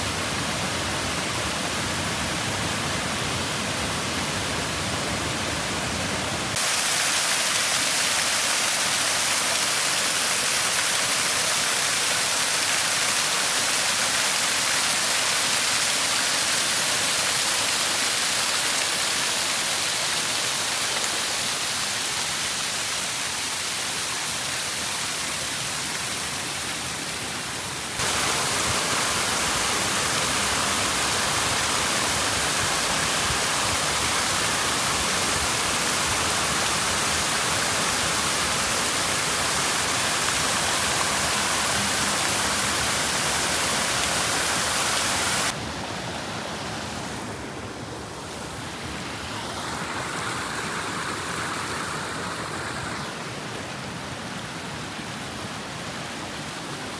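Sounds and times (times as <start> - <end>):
waterfall rushing and splashing: 0.0 - 56.9.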